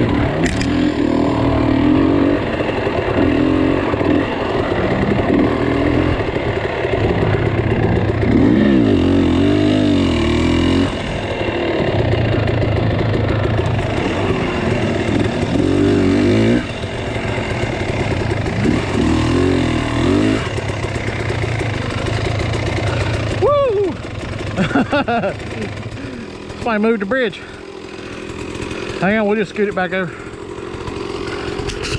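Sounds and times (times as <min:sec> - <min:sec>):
vehicle engine revving: 0:00.0 - 0:31.9.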